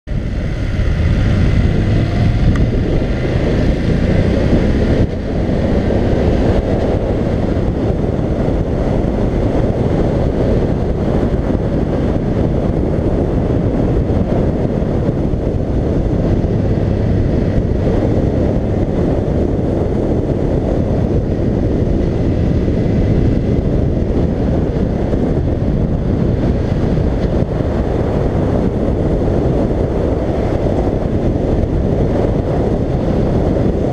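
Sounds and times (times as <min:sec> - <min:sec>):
wind rushing over microphone: 0:00.0 - 0:33.9
motorcycle engine running: 0:00.1 - 0:33.9.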